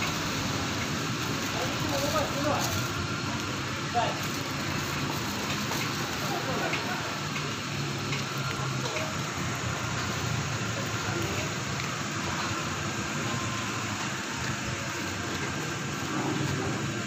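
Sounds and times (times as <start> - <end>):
charcoal crackles: 0.0 - 17.0
skewers sizzling on grill: 0.0 - 17.0.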